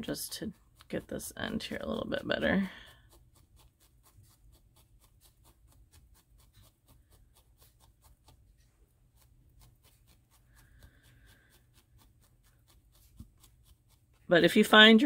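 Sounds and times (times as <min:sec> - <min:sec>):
felting needle jabbing wool: 0:00.0 - 0:15.0.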